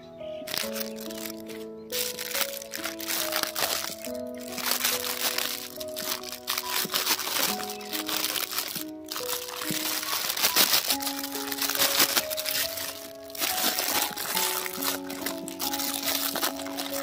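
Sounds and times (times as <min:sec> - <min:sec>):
background music of held notes: 0:00.0 - 0:17.0
plastic bag crinkling: 0:00.5 - 0:17.0.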